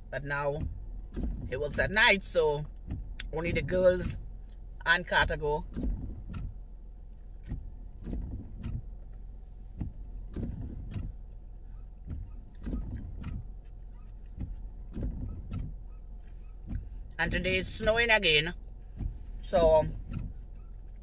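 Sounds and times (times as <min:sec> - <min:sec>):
low car hum: 0:00.0 - 0:21.0.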